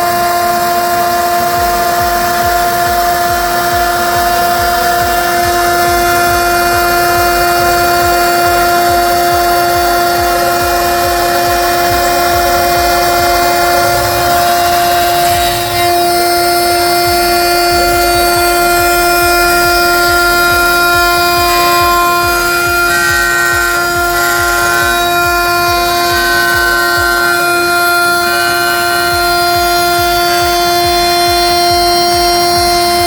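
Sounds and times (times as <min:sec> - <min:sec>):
fast low pulsing: 0:00.0 - 0:33.0
milling machine spindle whine: 0:00.0 - 0:33.0.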